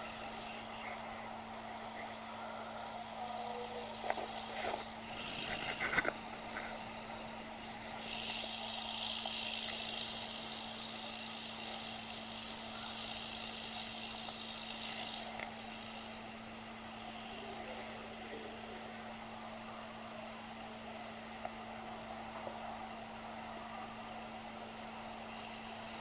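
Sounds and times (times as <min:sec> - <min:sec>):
hissing drone: 0:00.0 - 0:26.0
low electrical hum: 0:00.0 - 0:26.0.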